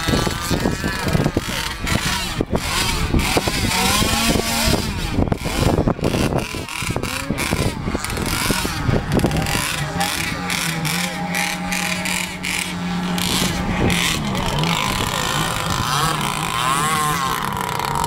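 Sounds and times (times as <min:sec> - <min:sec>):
model speedboat engine: 0:00.0 - 0:18.0
wind buffeting microphone: 0:00.0 - 0:18.0.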